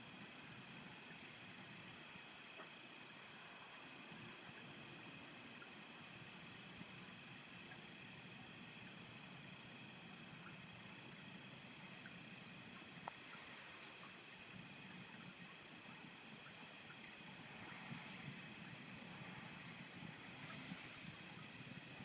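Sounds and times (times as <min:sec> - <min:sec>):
insect chirps: 0:00.0 - 0:22.0
insects trilling: 0:00.0 - 0:22.0.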